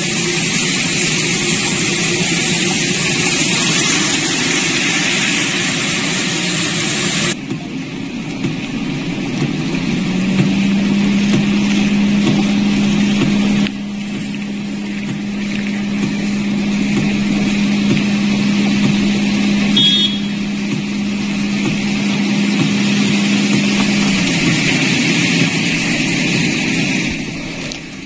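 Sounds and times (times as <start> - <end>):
low hum: 0.0 - 28.0
wet street outdoor noise: 0.0 - 28.0.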